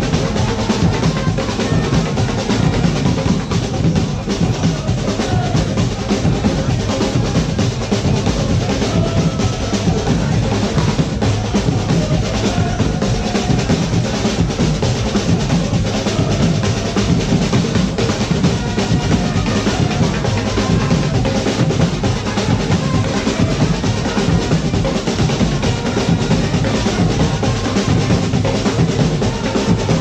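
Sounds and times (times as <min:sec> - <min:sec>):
fast bass drum and snare beat: 0:00.0 - 0:30.0.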